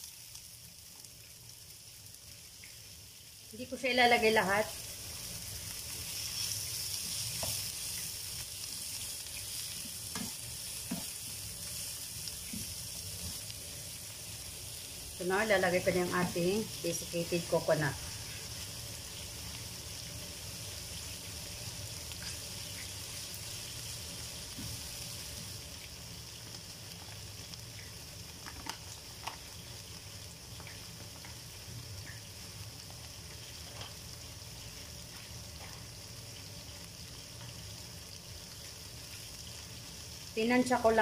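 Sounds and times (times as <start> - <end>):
oil sizzling in a wok: 0.0 - 41.0.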